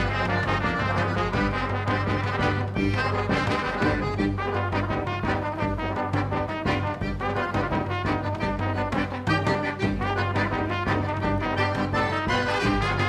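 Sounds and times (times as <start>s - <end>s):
upbeat brass band music: 0.0s - 13.0s.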